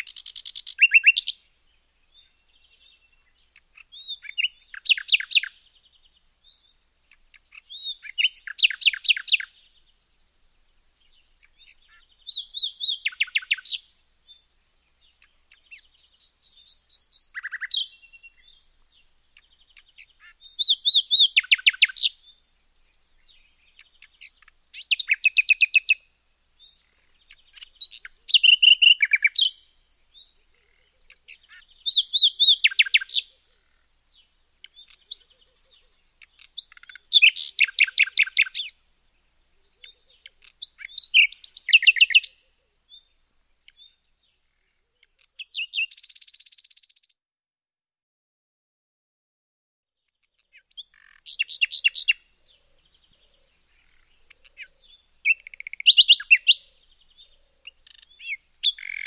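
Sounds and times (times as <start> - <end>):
songbird chirping: 0.0 - 47.2, 50.0 - 59.0.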